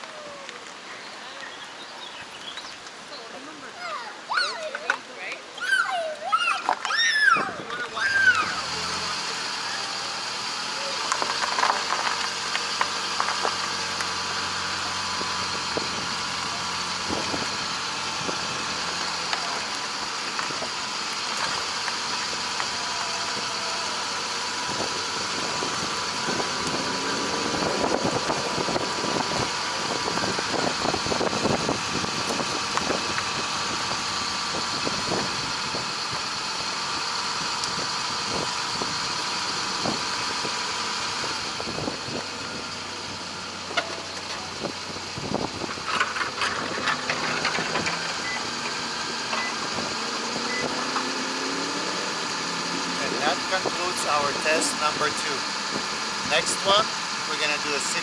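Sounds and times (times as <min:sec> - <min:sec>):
grit crackling under tyre: 0:00.0 - 0:58.0
tyre and road noise: 0:00.0 - 0:58.0
car engine running: 0:07.6 - 0:58.0.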